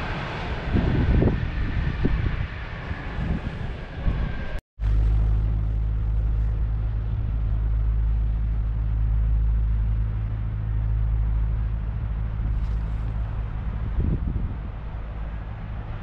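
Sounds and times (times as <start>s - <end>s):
train passing: 0.0s - 16.0s.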